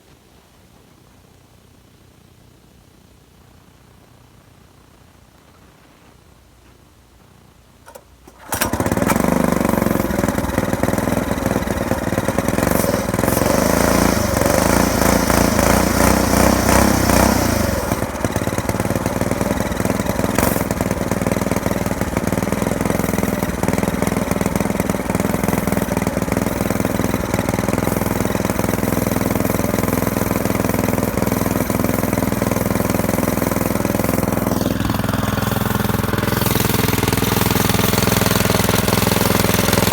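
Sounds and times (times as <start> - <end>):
small engine starting and idling: 7.9 - 39.9.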